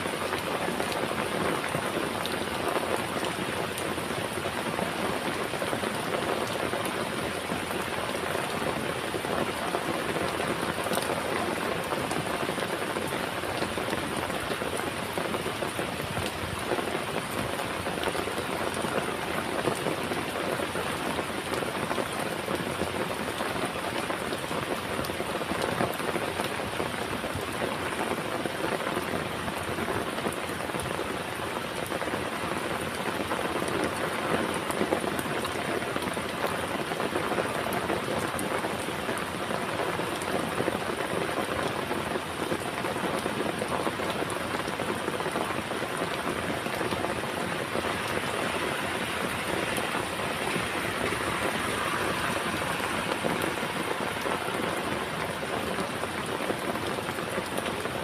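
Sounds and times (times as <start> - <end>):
heavy rain patter: 0.0 - 58.0.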